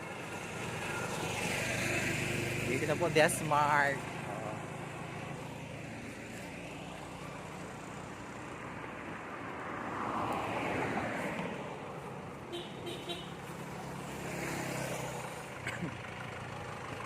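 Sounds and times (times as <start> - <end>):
vehicle engine running: 0.0 - 9.1, 11.8 - 17.0
vehicle passing: 0.0 - 16.9.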